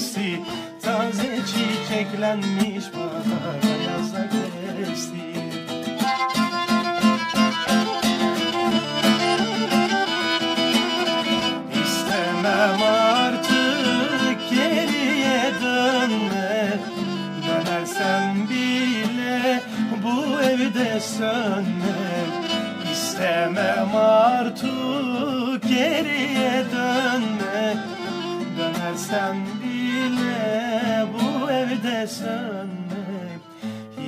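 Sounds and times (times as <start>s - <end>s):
bowed string melody: 0.0s - 33.6s
plucked and strummed strings: 0.0s - 34.0s.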